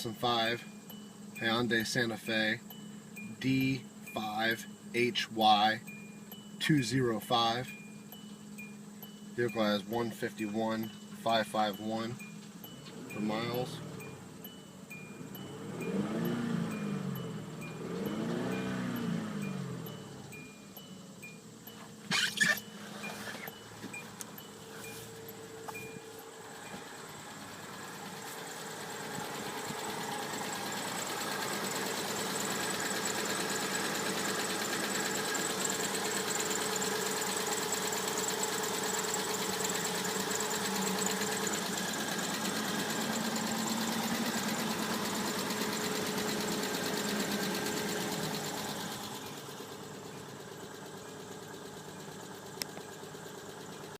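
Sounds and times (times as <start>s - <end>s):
car engine starting and revving: 8.5s - 53.9s.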